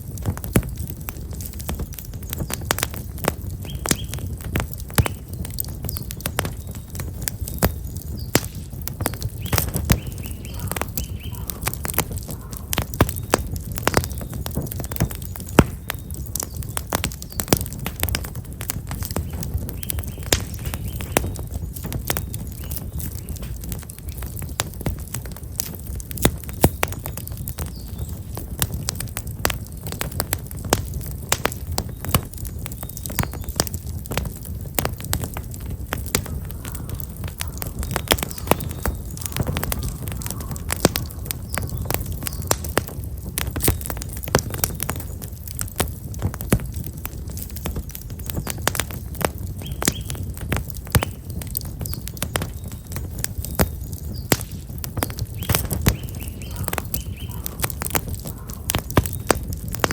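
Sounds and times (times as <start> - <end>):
campfire crackling and popping: 0.0 - 59.9
small birds chirping: 0.7 - 46.2, 47.1 - 59.9.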